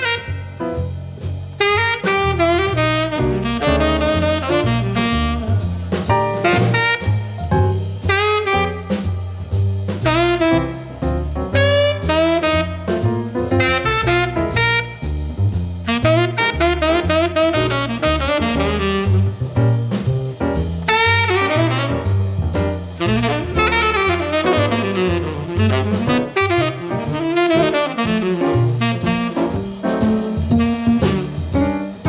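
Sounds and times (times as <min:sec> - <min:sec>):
saxophone melody: 0:00.0 - 0:00.8, 0:01.6 - 0:09.2, 0:10.1 - 0:15.2, 0:15.9 - 0:19.5, 0:20.9 - 0:22.4, 0:23.0 - 0:32.0
walking bass line: 0:00.0 - 0:32.0.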